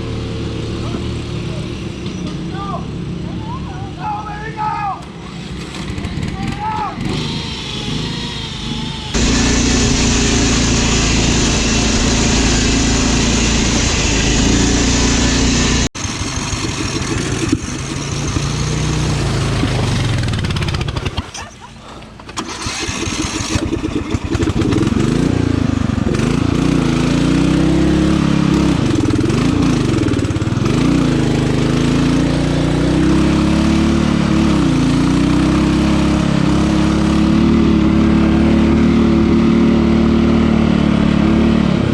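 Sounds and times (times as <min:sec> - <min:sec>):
riding lawn mower engine: 0:00.0 - 0:03.9, 0:05.0 - 0:41.9.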